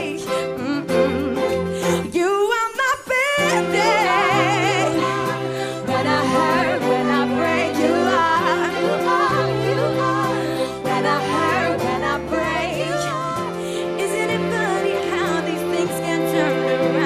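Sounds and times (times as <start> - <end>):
person singing ornamented runs: 2.9 - 17.0.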